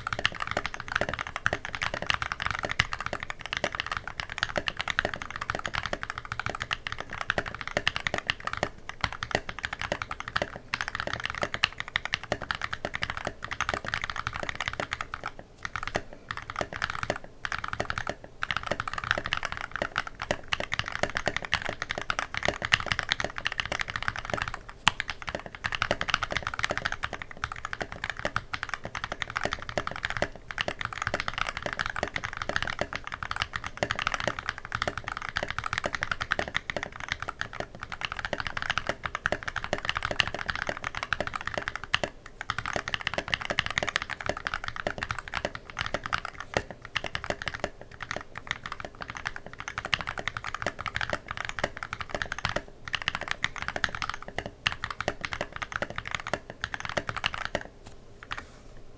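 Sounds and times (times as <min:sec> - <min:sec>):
fast mechanical keyboard typing: 0:00.0 - 0:58.4.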